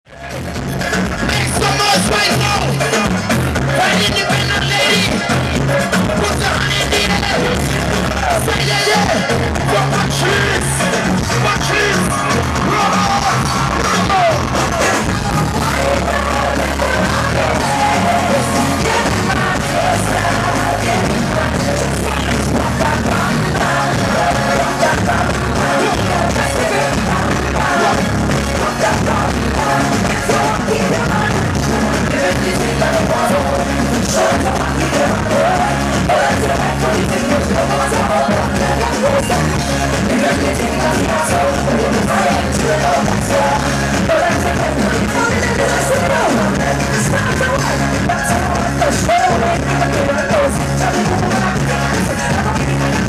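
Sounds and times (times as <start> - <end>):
soca music over sound system: 0.0 - 53.0
person singing: 0.1 - 53.0
crowd shouting: 0.2 - 53.0.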